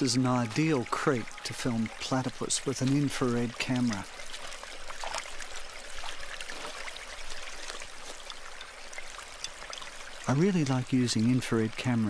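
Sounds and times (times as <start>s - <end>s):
creek water running: 0.0s - 12.0s
small splashes and drips: 0.0s - 12.0s.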